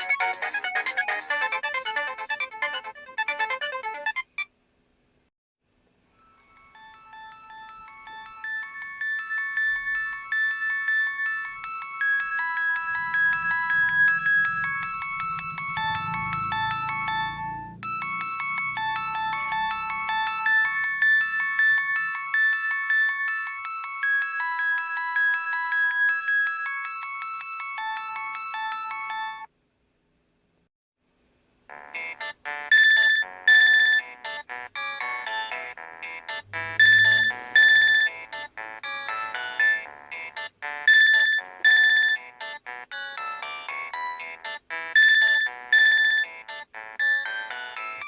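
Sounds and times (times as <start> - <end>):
polyphonic phone ringtone: 0.0 - 4.5, 6.2 - 29.5, 31.7 - 48.0.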